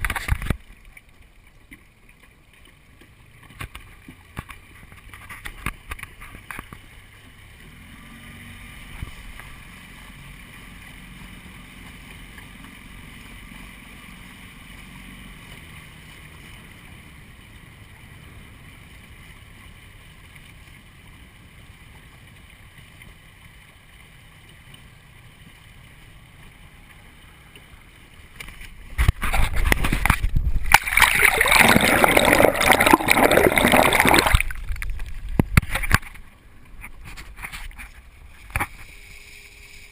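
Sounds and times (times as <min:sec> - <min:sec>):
water around sailboat: 0:00.0 - 0:39.9.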